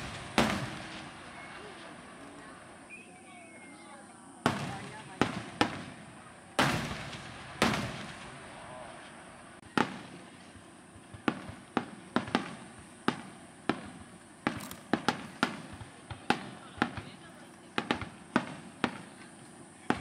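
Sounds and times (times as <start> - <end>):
firework cracks: 0.0 - 20.0
firework shells booming: 0.0 - 20.0.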